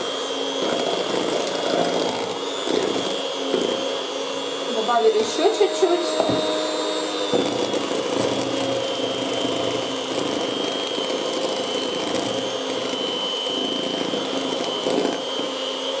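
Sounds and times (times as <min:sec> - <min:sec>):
electric hand mixer whining: 0:00.0 - 0:16.0.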